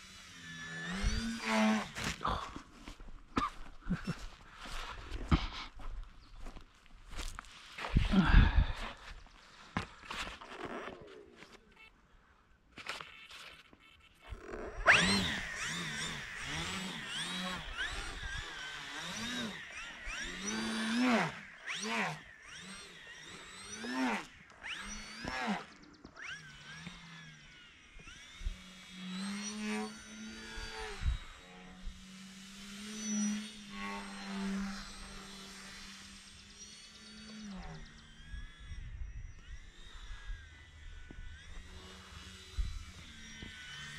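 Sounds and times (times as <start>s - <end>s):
model plane motor whining: 0.0s - 3.0s, 9.8s - 43.9s.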